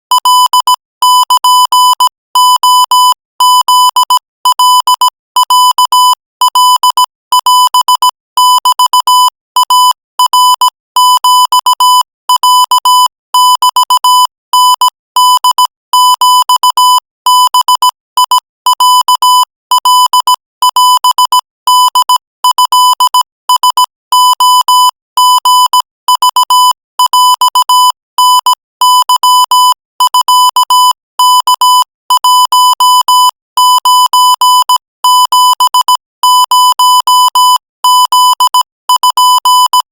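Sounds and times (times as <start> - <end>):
morse code beeps: 0.1 - 39.9.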